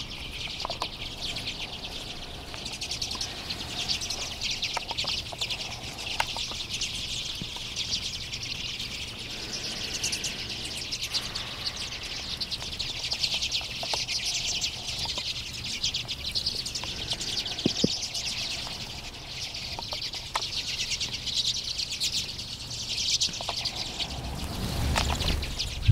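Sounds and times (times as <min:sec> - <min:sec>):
flock of birds twittering: 0:00.0 - 0:25.9.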